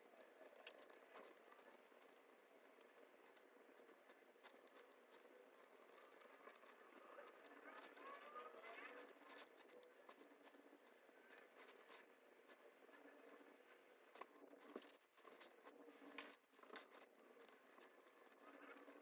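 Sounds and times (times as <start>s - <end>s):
soft scratches and clicks: 0.0s - 19.0s.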